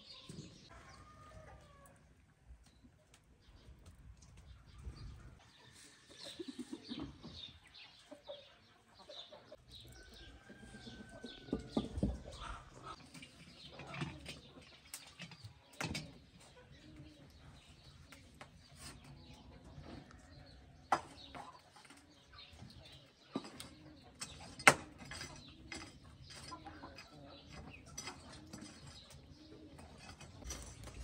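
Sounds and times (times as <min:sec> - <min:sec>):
small birds chirping: 0:00.0 - 0:31.0
chickens clucking: 0:03.4 - 0:31.0.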